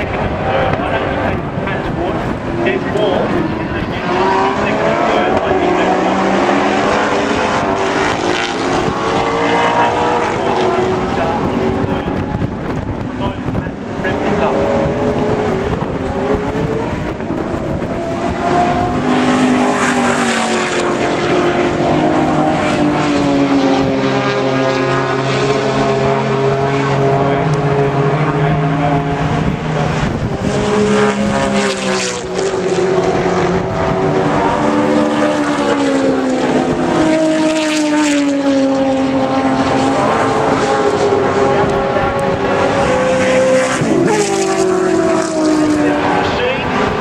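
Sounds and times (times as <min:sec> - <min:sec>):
race cars passing: 0:00.0 - 0:47.0.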